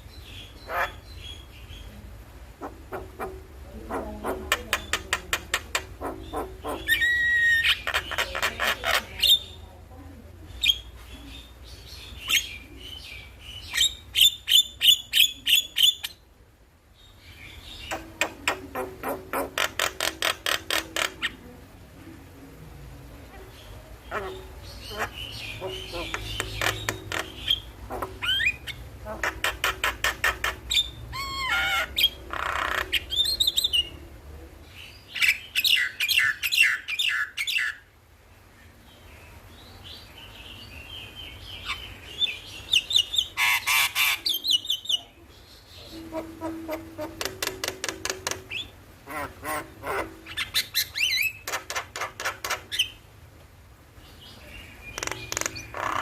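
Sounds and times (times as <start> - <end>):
birds singing and chattering: 0.0 - 16.3, 16.9 - 21.7, 23.3 - 53.1, 53.9 - 56.0.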